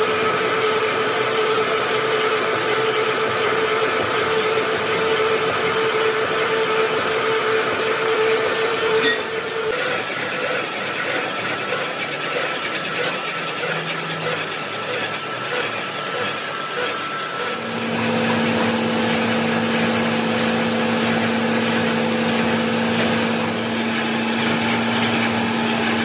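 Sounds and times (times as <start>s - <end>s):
lathe tool rasping scrape: 0.0s - 26.0s
machine running hum: 0.0s - 26.0s.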